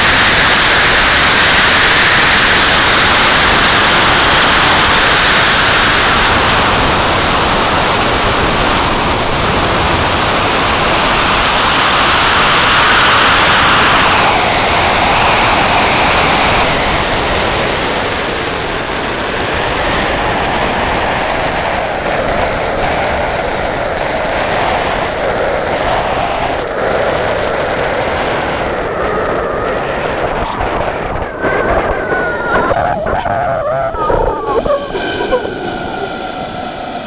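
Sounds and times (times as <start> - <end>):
wind rushing across microphone: 0.0 - 37.0
zipline trolley whine on cable: 0.0 - 37.0.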